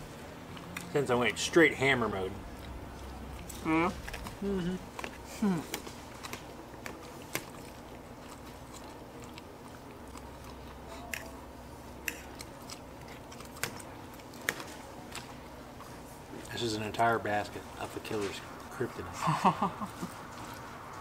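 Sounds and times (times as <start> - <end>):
low room hum: 0.0 - 21.0
people chewing food: 0.0 - 21.0.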